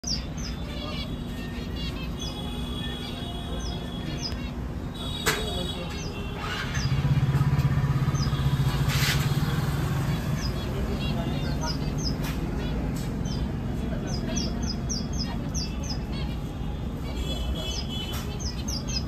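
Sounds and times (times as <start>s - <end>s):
caged birds chirping: 0.0s - 19.0s.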